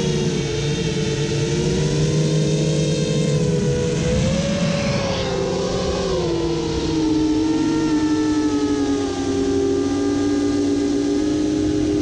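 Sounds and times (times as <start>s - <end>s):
low wind rush: 0.0s - 12.0s
quadcopter propellers whining: 0.0s - 12.0s.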